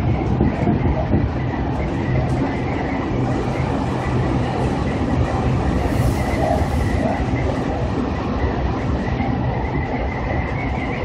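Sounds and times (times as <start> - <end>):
rumble of train wheels on rails: 0.0 - 11.0.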